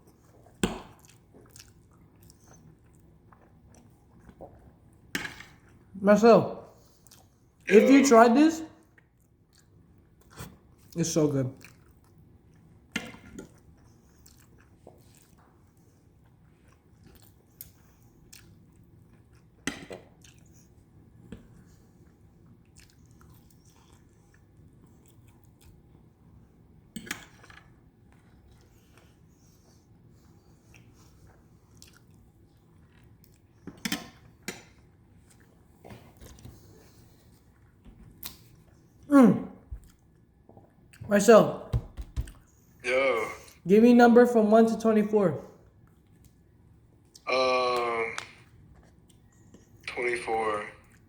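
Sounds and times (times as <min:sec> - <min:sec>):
person chewing food: 0:00.0 - 0:05.9, 0:06.7 - 0:08.0, 0:08.8 - 0:11.0, 0:11.6 - 0:41.1, 0:45.6 - 0:49.9.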